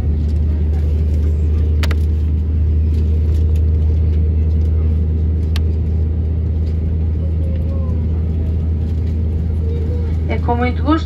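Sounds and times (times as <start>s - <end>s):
airplane cabin hum and rumble: 0.0s - 11.0s.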